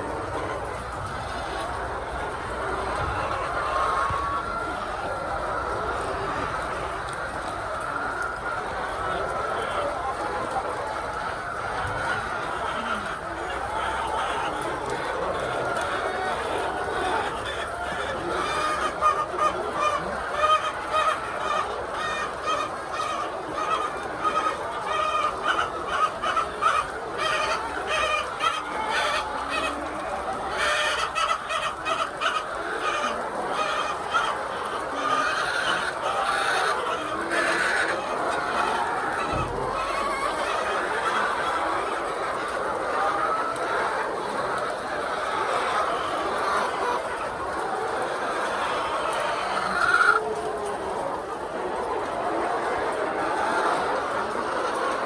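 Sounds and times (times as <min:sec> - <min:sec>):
hens clucking and cackling: 0:00.0 - 0:55.0.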